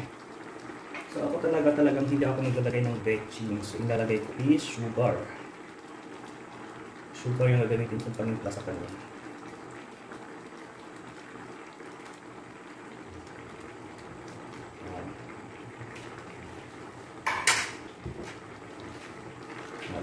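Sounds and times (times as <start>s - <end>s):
sauce bubbling in a frying pan: 0.0s - 20.0s.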